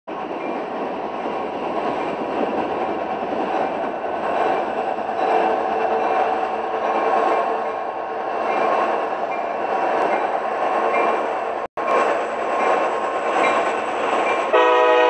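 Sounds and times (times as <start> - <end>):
freight train rumbling on rails: 0.1 - 15.0.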